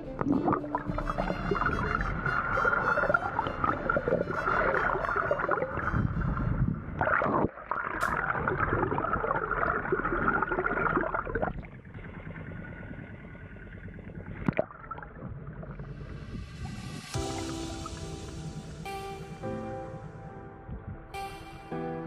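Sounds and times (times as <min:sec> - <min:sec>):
water splash: 0:00.0 - 0:11.9, 0:14.4 - 0:20.2
muffled underwater water rushing: 0:00.0 - 0:21.1.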